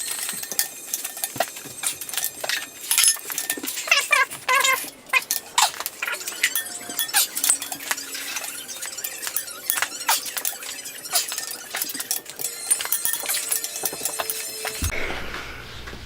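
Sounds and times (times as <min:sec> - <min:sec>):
high squeaks of bolts turning: 0:00.0 - 0:14.9.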